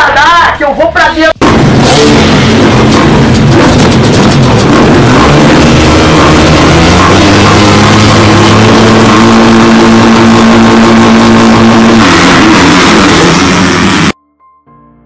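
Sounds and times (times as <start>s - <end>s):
dirt bike engine revving high: 1.4s - 14.2s.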